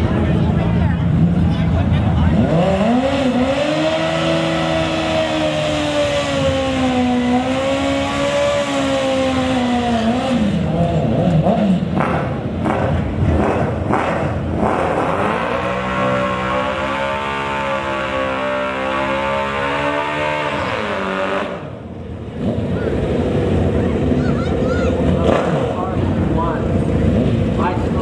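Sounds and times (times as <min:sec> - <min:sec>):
racing engines revving: 0:00.0 - 0:28.0.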